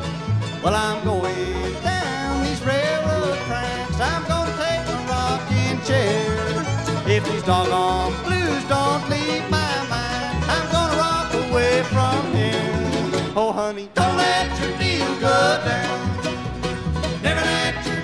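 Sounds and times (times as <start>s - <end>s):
sliding lead melody: 0.0s - 13.4s, 14.0s - 18.0s
banjo: 0.0s - 18.0s
bluegrass band playing: 0.0s - 18.0s.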